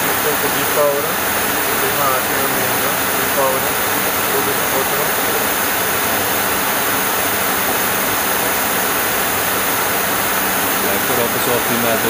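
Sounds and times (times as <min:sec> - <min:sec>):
airflow rushing: 0:00.0 - 0:12.0
jet engine noise: 0:00.0 - 0:12.0.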